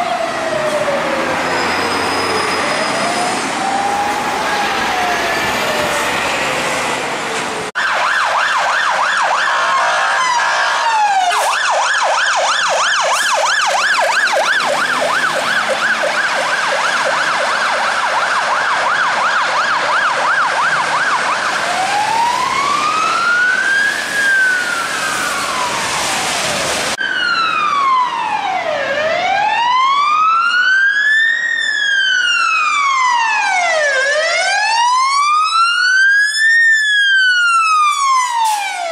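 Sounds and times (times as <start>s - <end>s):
fire engine siren wail: 0.0s - 38.9s
fire engine siren yelp: 0.0s - 38.9s.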